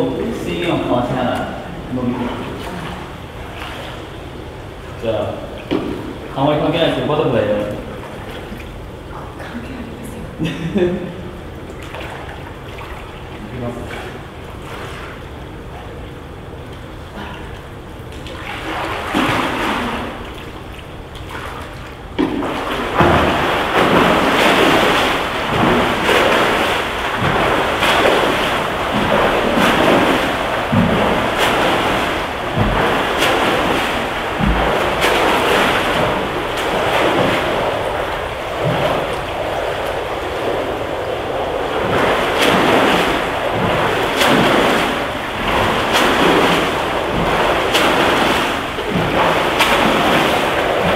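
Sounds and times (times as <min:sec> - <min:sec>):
swimmer splashing: 0:00.0 - 0:50.9.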